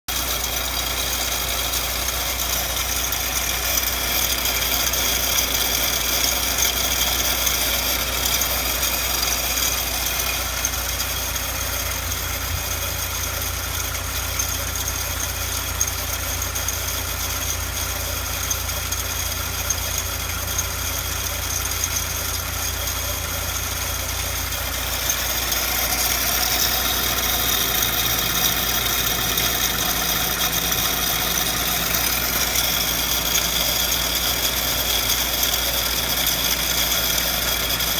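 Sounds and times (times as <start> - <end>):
car engine idling: 0.0 - 37.9
high-pitched pulley whine: 0.1 - 37.9.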